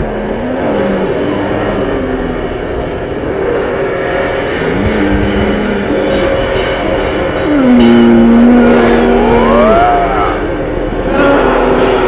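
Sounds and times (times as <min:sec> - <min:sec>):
droning experimental music: 0:00.0 - 0:12.0.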